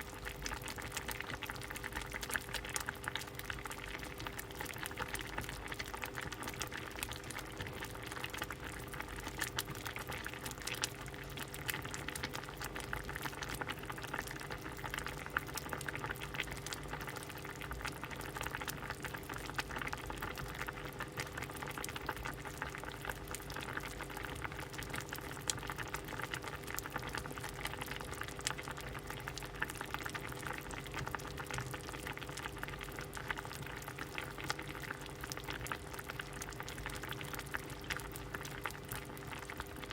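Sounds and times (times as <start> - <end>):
faint steady hum: 0.0 - 39.9
soup boiling and bubbling: 0.0 - 39.9.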